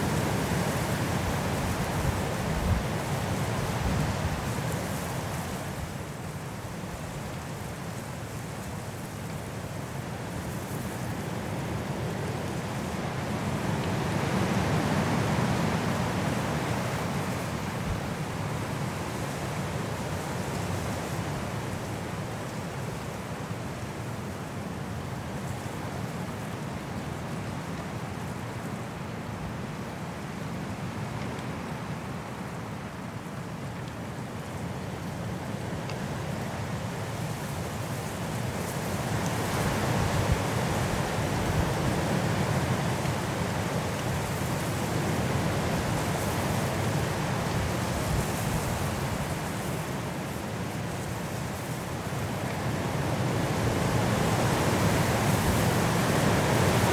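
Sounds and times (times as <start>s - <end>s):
strong wind blowing through trees: 0.0s - 56.9s.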